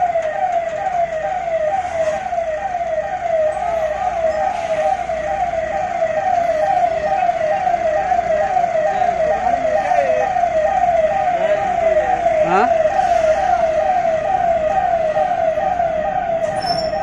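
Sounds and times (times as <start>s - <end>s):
emergency vehicle siren sweeping: 0.0s - 17.0s.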